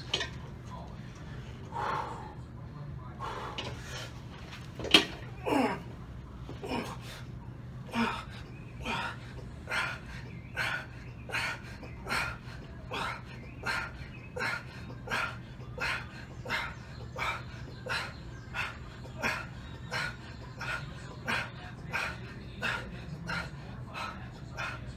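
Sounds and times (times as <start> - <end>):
steady low hum: 0.0 - 24.9
man breathing hard: 1.2 - 2.6, 3.2 - 4.2, 6.7 - 24.9.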